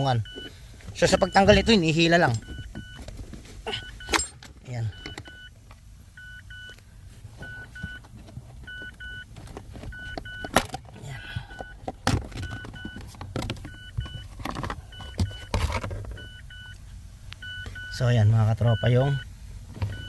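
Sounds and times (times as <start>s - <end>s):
car warning chime beeping: 0.0s - 3.0s, 3.7s - 6.8s, 7.4s - 9.3s, 9.9s - 15.6s, 16.2s - 16.8s, 17.4s - 20.0s
steady low hum: 0.0s - 20.0s.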